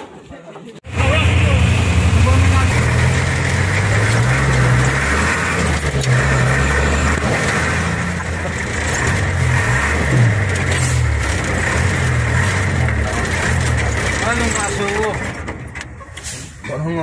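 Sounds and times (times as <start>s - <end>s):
truck engine revving: 0.9s - 16.6s.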